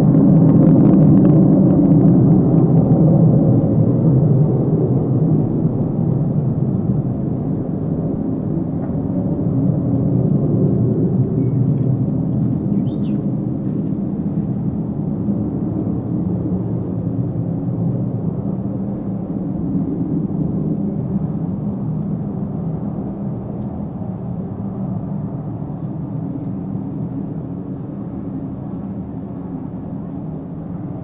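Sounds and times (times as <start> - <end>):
jet airliner engines rumbling: 0.0 - 31.0.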